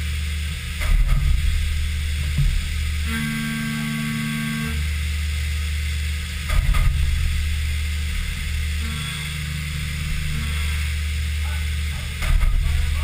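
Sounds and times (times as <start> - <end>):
cnc mill cutting hum: 0.0 - 13.0.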